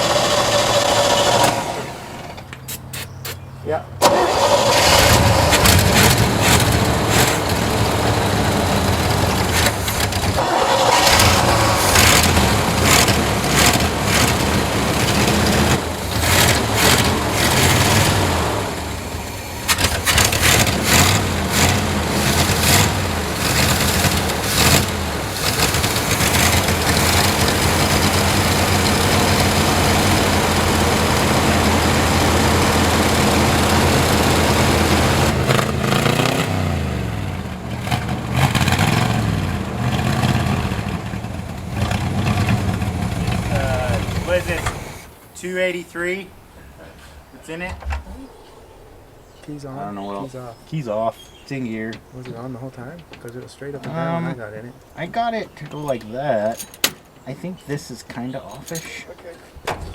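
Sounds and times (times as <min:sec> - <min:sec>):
car engine idling unevenly: 0:00.0 - 0:47.6, 0:51.3 - 0:59.9.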